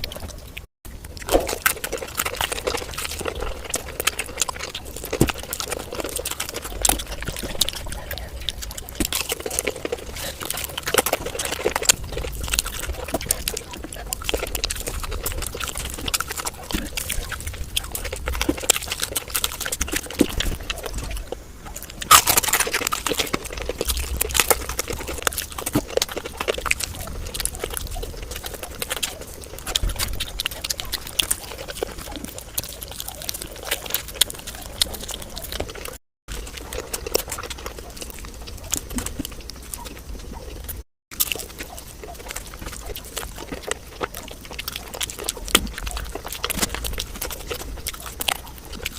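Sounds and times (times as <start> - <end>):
wet chewing and slurping: 0.0 - 48.9.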